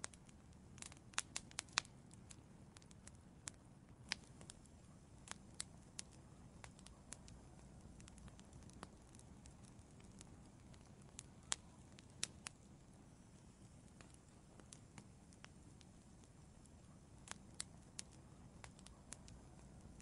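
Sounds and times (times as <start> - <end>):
low steady background rush: 0.0 - 20.0
sharp pops of fire: 0.0 - 20.0
wood fire crackling: 0.0 - 20.0.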